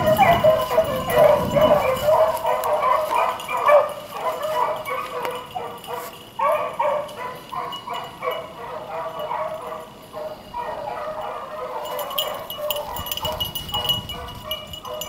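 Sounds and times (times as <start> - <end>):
dogs baying: 0.0 - 15.0.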